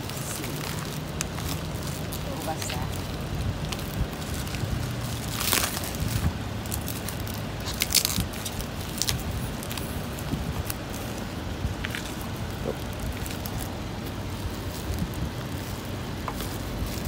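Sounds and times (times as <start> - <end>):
paper ripping: 0.0 - 17.0
plastic wrap crinkling: 0.0 - 17.0.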